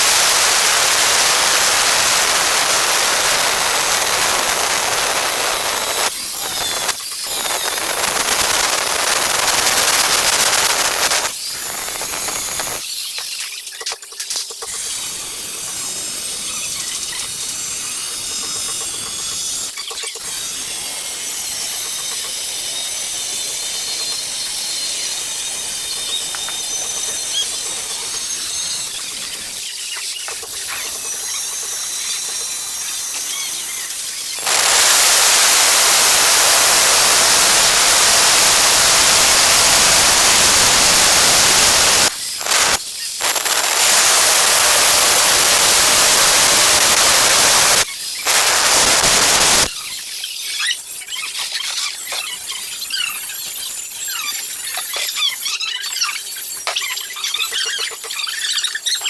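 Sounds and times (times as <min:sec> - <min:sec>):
angle grinder cutting tile: 0:00.0 - 0:13.5, 0:14.6 - 0:58.2.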